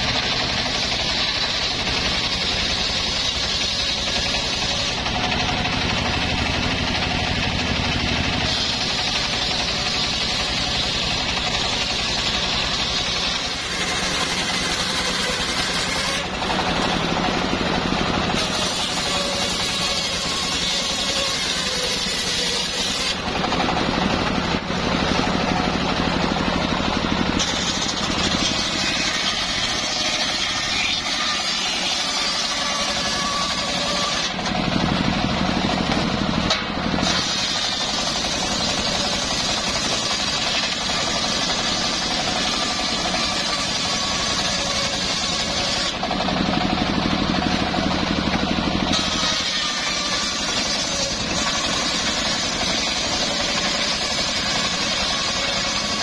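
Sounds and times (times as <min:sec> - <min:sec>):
circular saw ripping wood: 0:00.0 - 0:56.0.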